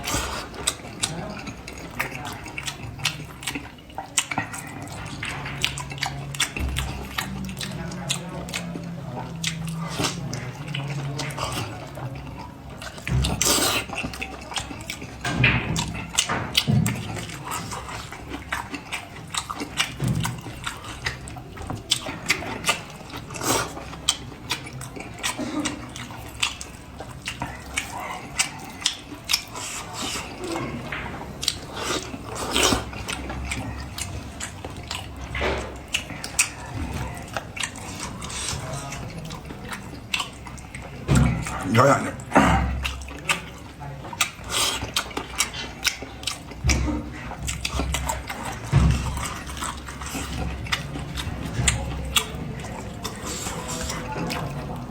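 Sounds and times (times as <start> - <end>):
wet chewing and lip-smacking: 0.0 - 54.9.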